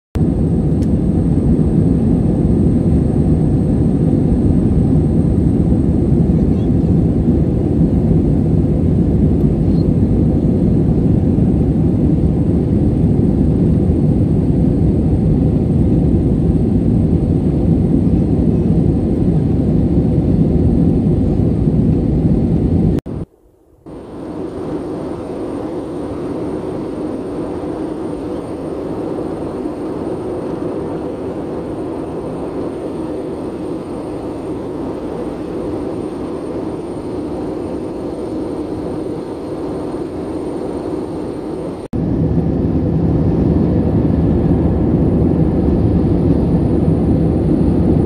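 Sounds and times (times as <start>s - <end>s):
jet engine cabin noise: 0.2s - 48.0s.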